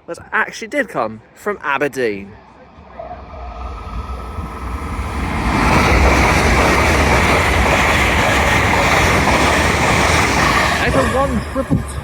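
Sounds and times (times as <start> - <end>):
electric train passing at speed: 2.3 - 12.0.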